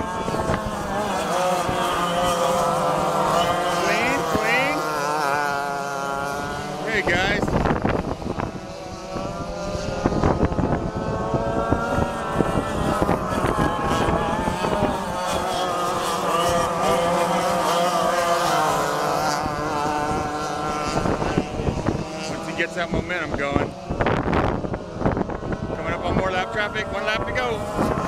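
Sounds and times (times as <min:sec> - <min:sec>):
racing kart engines: 0:00.0 - 0:28.0.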